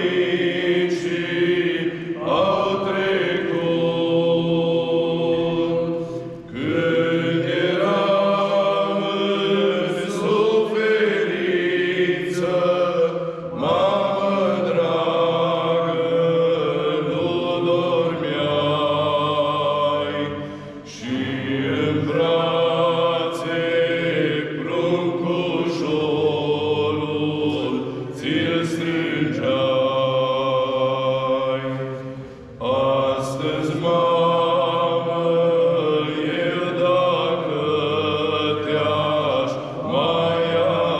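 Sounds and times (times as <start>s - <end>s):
priests chanting: 0.0s - 40.9s.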